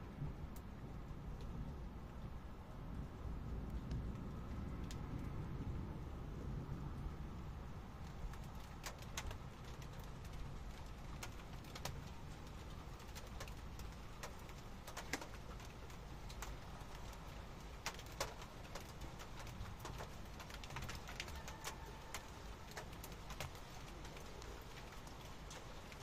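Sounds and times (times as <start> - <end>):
raindrops tapping on hard surface: 0.1 - 2.2, 2.9 - 5.5, 8.0 - 26.0.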